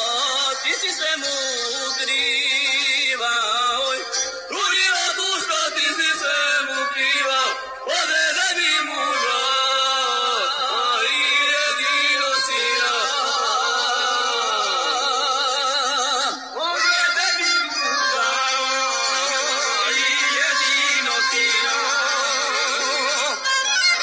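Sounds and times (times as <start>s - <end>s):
men singing folk song: 0.0s - 23.5s.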